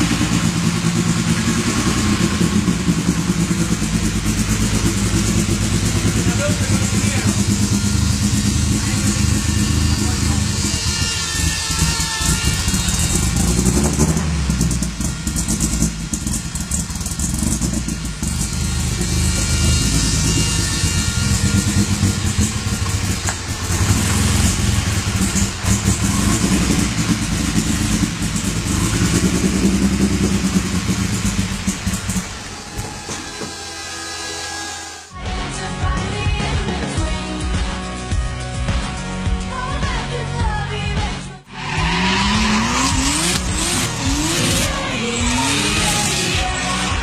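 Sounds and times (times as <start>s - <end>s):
car engine running loud: 0.0s - 35.2s, 41.4s - 47.0s.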